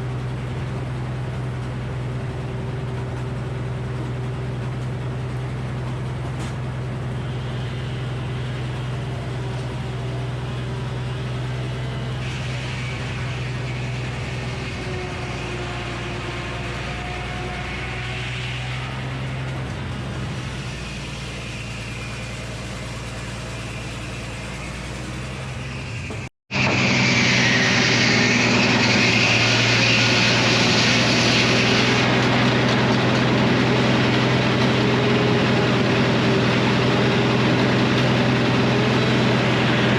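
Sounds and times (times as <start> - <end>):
sawmill running with drone: 0.0 - 39.9.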